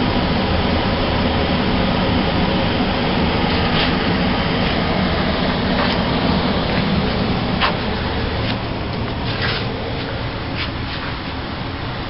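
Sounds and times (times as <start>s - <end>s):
blower air rush: 0.0s - 12.0s
low hum: 0.0s - 12.0s.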